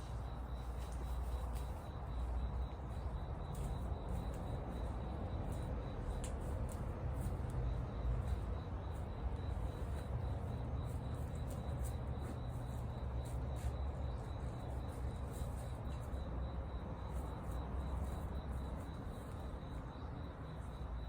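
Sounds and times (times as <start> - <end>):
low steady fire rumble: 0.0 - 21.0.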